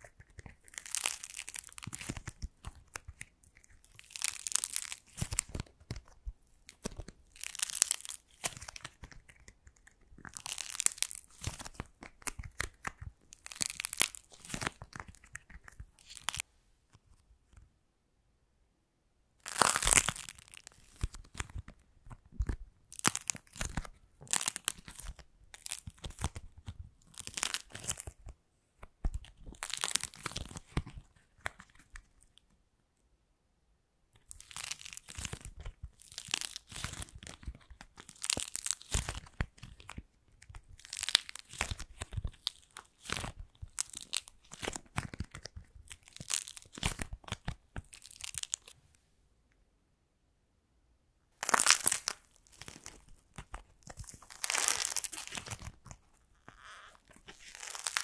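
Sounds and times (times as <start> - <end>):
clay crackling crunch: 0.0 - 17.8, 19.4 - 32.6, 34.1 - 49.6, 51.3 - 58.0.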